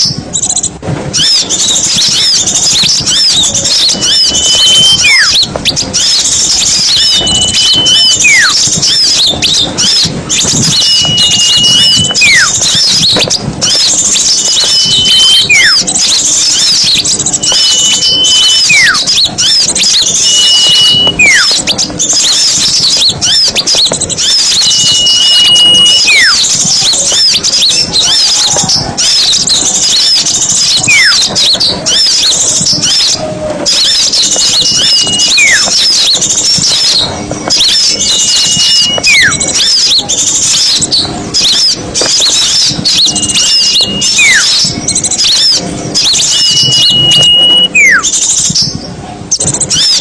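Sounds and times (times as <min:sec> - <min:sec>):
songbirds chattering: 0:00.0 - 0:50.0
whistled bird call: 0:00.0 - 0:50.0.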